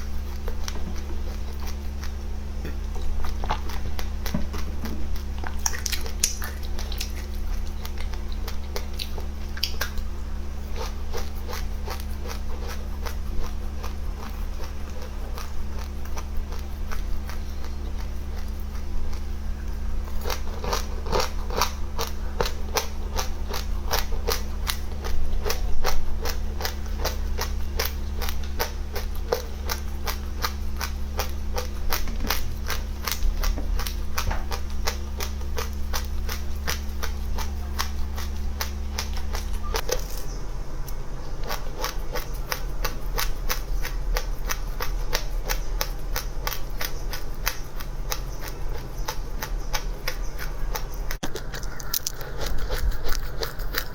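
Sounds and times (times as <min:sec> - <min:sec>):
crunchy chewing of seeds: 0:00.0 - 0:53.9
steady low hum: 0:00.0 - 0:53.9.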